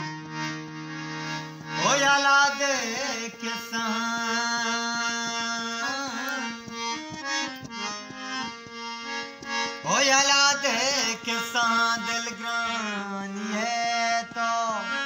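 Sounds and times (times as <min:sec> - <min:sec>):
harmonium playing chords and melody: 0:00.0 - 0:15.0
man singing wordlessly: 0:01.6 - 0:08.6, 0:09.7 - 0:15.0.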